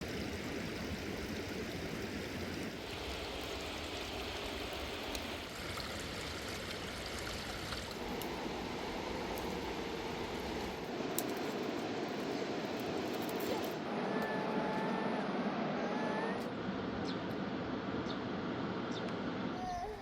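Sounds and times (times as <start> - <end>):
mountain river rushing: 0.0 - 16.9.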